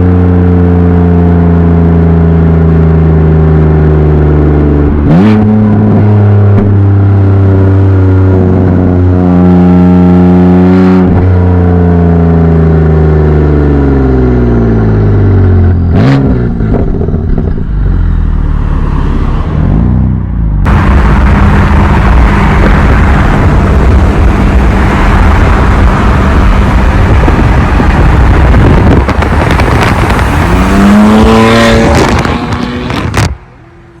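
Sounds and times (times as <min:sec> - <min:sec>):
car engine with loud exhaust: 0:00.0 - 0:34.0.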